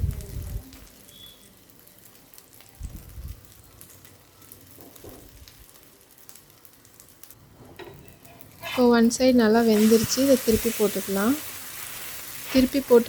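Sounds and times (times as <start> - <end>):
omelette sizzling in a pan: 0.0 - 13.0.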